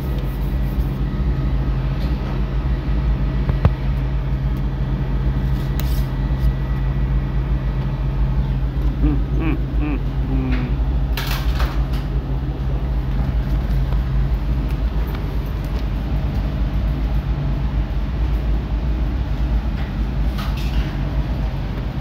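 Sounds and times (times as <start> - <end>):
two-tone low hum: 0.0 - 22.0.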